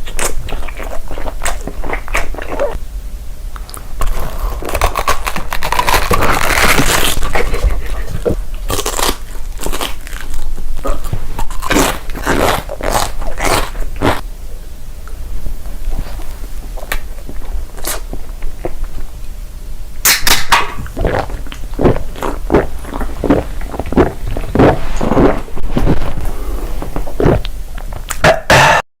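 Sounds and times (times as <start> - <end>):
crunchy chewing of food: 0.0 - 2.8, 3.5 - 14.3, 15.0 - 19.3, 20.2 - 28.4.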